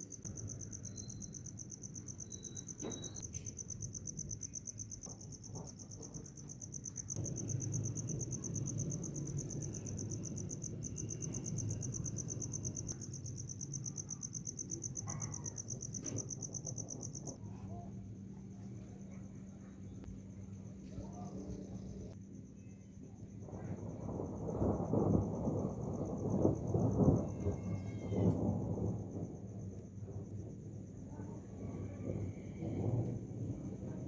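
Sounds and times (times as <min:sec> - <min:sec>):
cricket trilling: 0:00.0 - 0:34.0.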